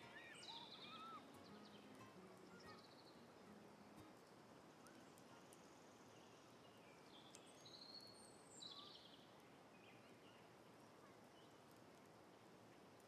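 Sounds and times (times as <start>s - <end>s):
faint birdsong: 0.0s - 13.0s
soft steady background hiss: 0.0s - 13.0s.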